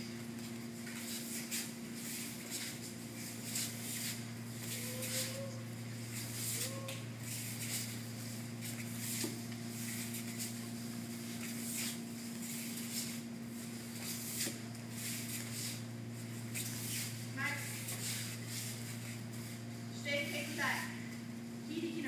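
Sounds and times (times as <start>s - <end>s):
feet and clothes rustling on mat: 0.0s - 20.9s
steady electrical hum: 0.0s - 22.0s.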